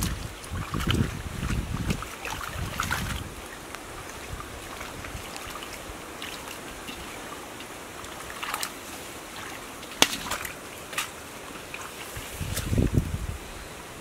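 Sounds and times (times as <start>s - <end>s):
small water splashes: 0.0s - 12.8s
hands groping in muddy water: 0.0s - 12.9s.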